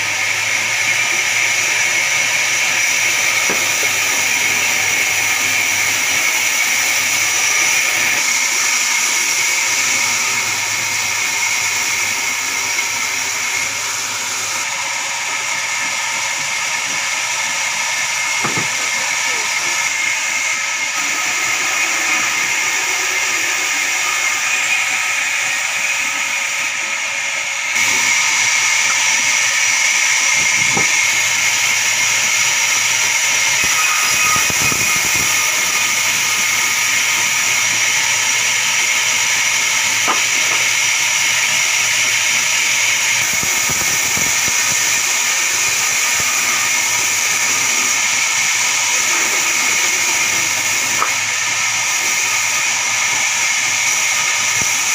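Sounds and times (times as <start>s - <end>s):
band saw hissing and whining: 0.0s - 54.9s.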